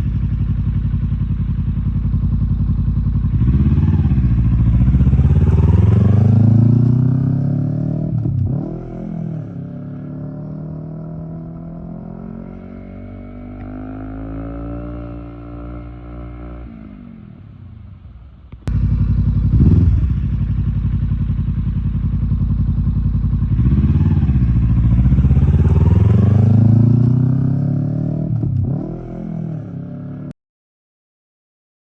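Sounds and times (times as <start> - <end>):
motorcycle engine revving: 0.0 - 17.5, 18.6 - 30.3.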